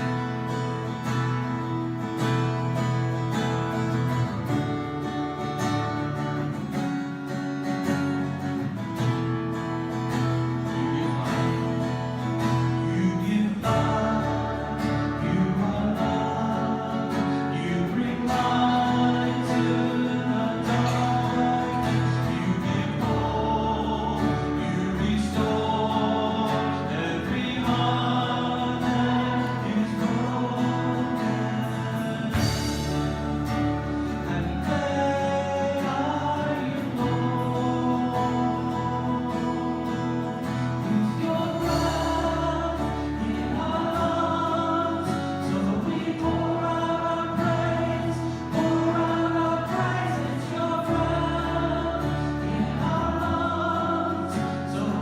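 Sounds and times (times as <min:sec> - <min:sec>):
strummed acoustic guitar: 0:00.0 - 0:55.0
group of voices singing: 0:09.5 - 0:55.0.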